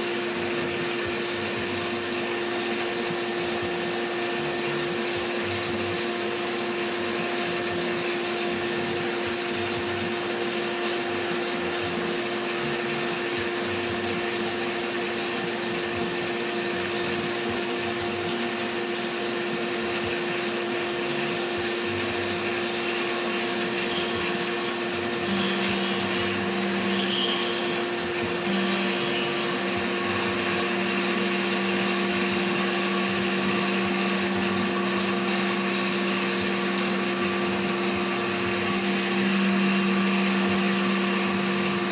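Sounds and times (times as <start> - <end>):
milling machine motor whine: 0.0 - 41.9.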